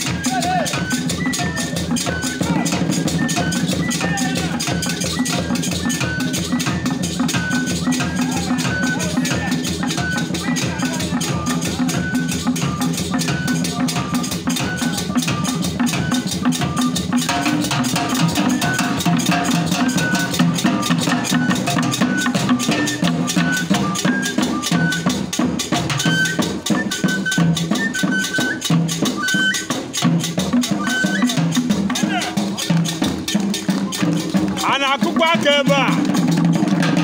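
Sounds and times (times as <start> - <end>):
drum ensemble playing: 0.0 - 37.0.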